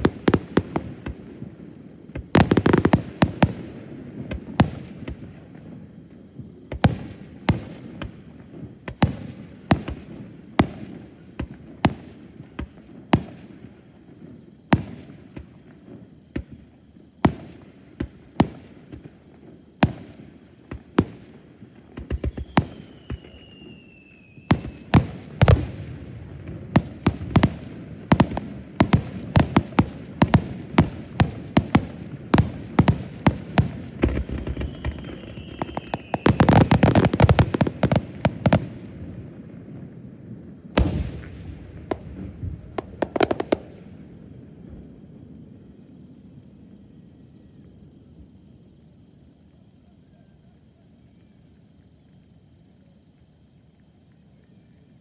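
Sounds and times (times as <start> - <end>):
fireworks bursting: 0.0 - 16.6, 17.2 - 45.1.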